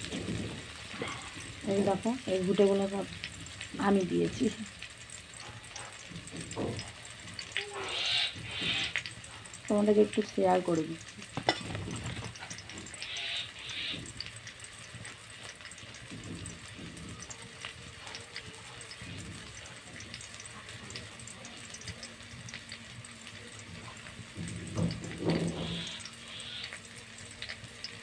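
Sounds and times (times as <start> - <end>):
faint crackles: 0.0 - 28.0
food sizzling in a pan: 0.0 - 28.0.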